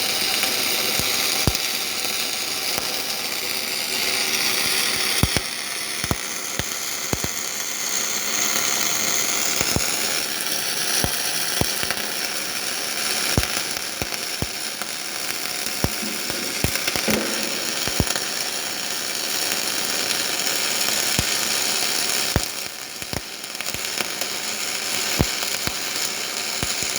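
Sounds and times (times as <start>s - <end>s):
arc welding hiss and crackles: 0.0s - 26.9s.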